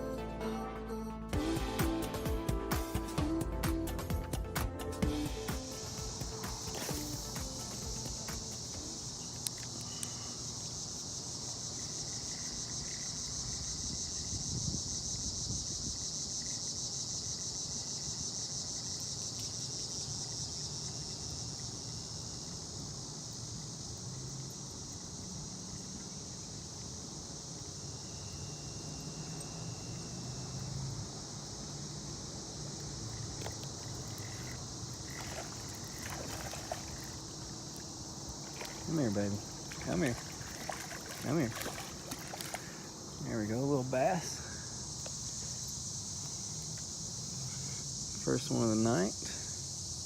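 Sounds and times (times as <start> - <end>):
night insects trilling: 1.4 - 50.0.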